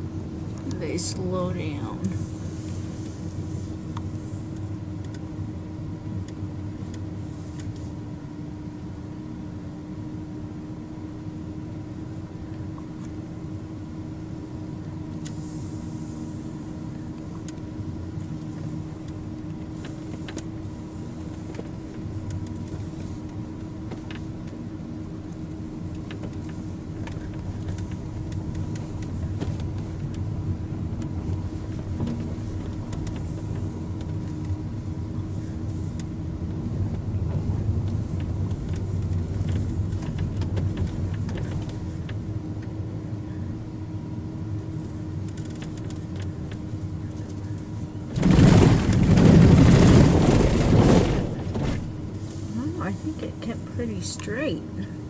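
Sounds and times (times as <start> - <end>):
car engine and road noise: 0.0 - 55.0
faint steady hum: 0.0 - 55.0.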